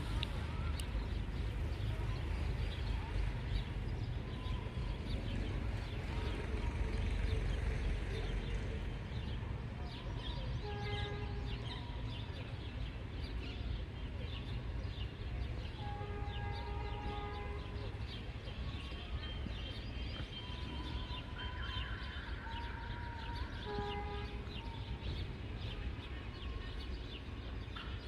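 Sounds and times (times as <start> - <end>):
birds chirping: 0.0 - 28.0
goods train rolling past: 0.0 - 28.0.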